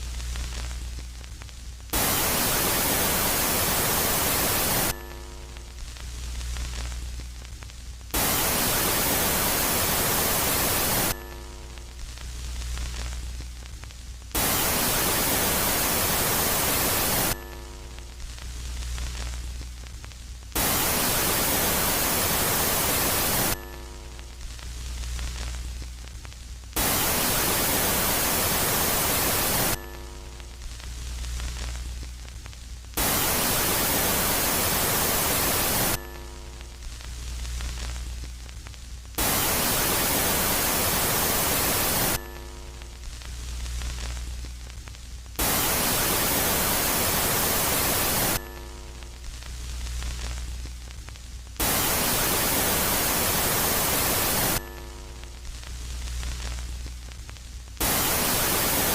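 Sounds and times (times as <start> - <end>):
low hum with faint tones: 0.0 - 58.9
static hiss bursts: 0.0 - 58.9.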